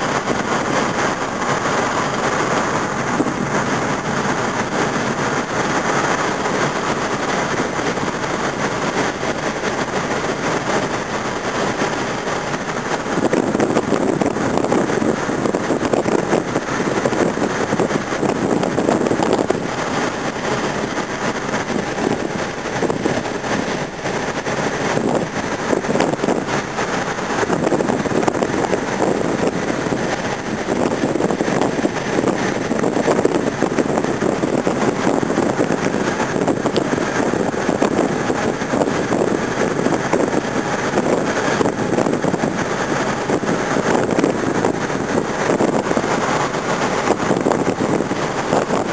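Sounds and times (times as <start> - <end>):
car road noise: 0.0 - 48.9
wind through car window: 0.0 - 48.9.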